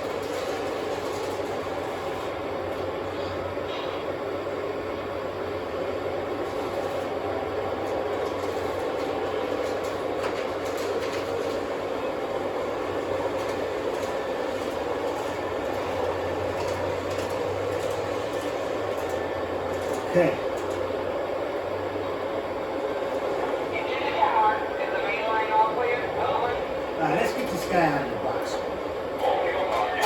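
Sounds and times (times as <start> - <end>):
model trains rumbling on track: 0.0 - 30.0.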